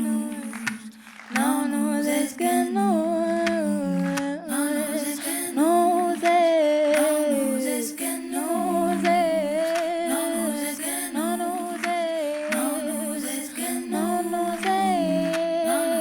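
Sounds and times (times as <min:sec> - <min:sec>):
female vocal harmonies: 0:00.0 - 0:16.0.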